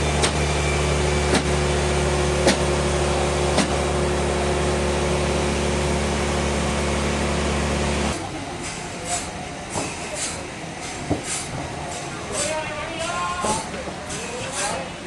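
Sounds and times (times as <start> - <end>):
sawmill machinery humming: 0.0 - 15.0.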